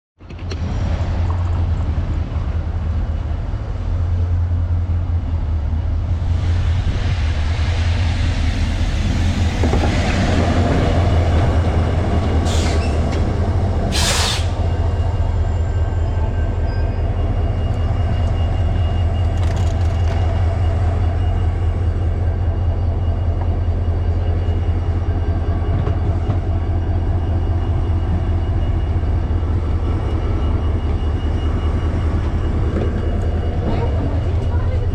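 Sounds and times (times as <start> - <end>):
rail noise: 0.2 - 34.9
train humming: 0.2 - 34.9.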